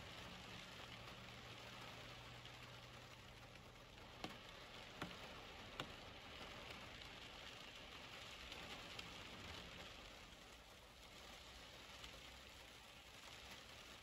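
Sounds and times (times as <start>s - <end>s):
rain hiss: 0.0s - 14.0s.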